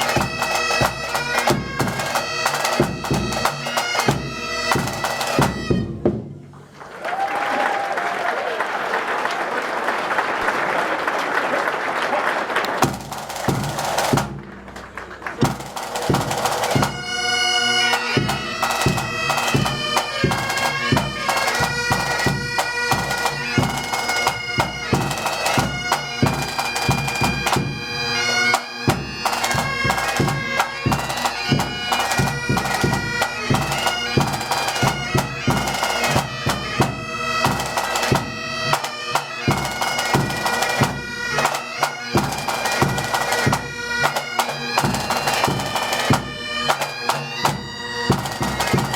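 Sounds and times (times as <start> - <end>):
bagpipes playing a tune: 0.0 - 6.0, 15.5 - 48.9
drums beating: 0.0 - 7.3, 12.7 - 48.9.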